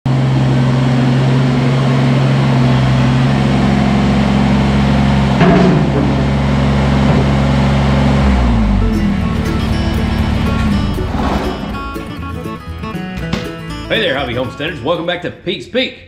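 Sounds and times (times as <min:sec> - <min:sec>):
tractor diesel engine running: 0:00.0 - 0:15.4.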